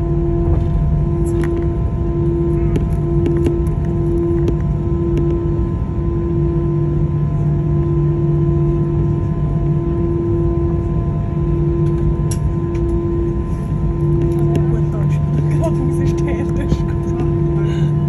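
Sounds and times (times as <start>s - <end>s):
jet engines humming and whining: 0.0s - 18.0s
low rumble: 0.0s - 18.0s.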